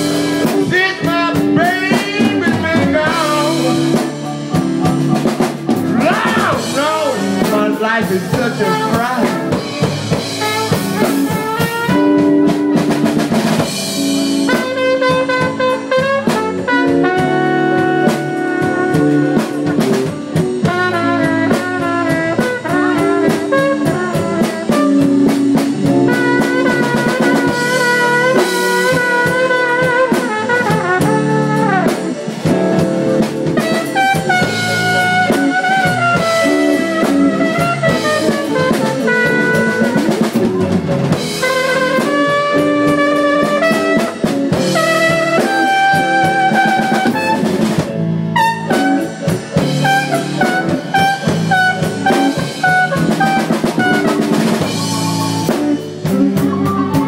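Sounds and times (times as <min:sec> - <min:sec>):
drum kit keeping time: 0:00.0 - 0:57.0
lead instrument bending notes: 0:00.0 - 0:57.0.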